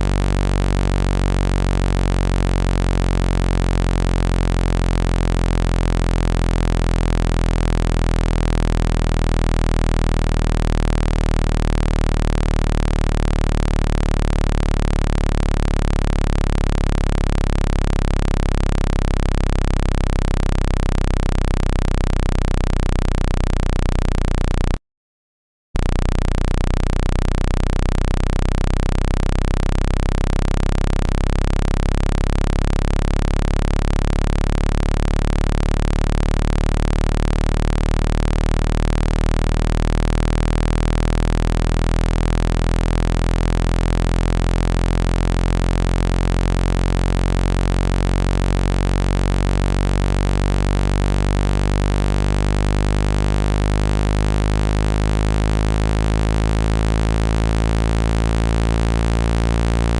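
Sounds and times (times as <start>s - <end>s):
low buzzy electronic drone: 0.0s - 24.8s, 25.8s - 59.9s.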